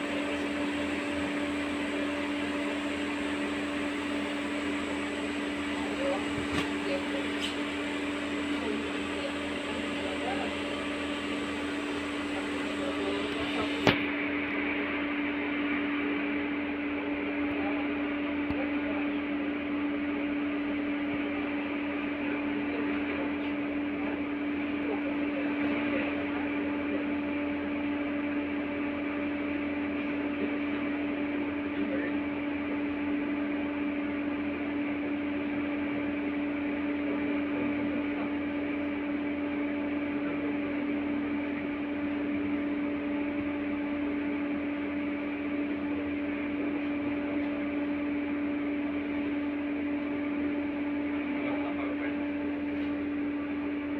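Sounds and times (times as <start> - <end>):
steady electrical hum: 0.0 - 53.9.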